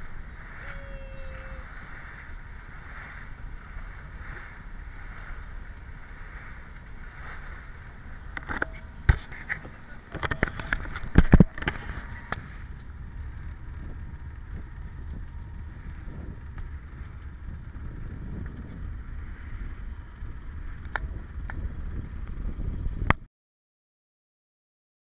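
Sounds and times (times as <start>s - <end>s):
wind and water rushing: 0.0s - 23.1s.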